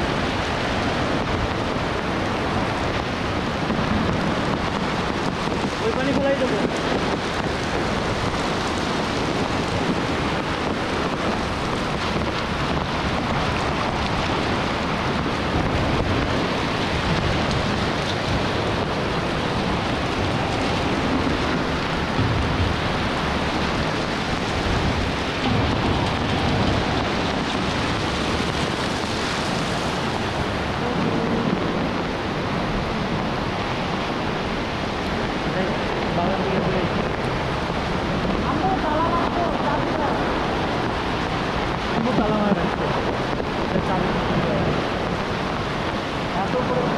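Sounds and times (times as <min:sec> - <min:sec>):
heavy rain splashing on paving: 0:00.0 - 0:46.9.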